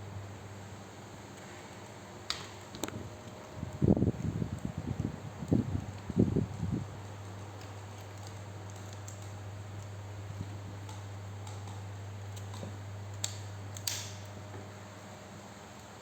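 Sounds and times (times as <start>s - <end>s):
steady low hum: 0.0s - 16.0s
light clicks and ticks: 1.4s - 14.3s.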